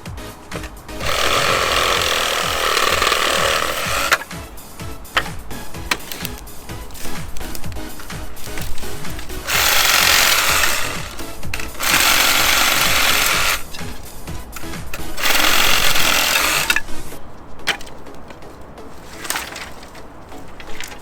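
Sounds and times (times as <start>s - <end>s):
reciprocating saw cutting branches: 0.0s - 21.0s.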